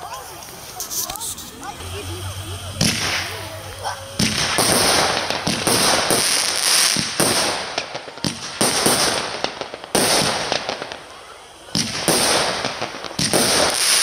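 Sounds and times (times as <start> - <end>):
firework battery firing: 0.0 - 14.0.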